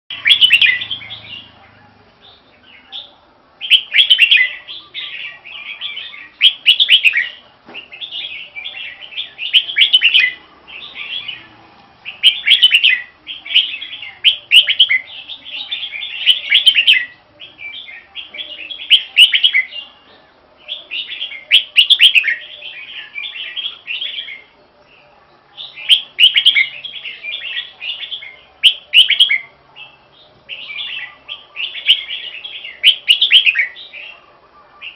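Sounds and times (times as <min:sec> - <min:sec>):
bird singing warbled phrases: 0:00.1 - 0:34.9.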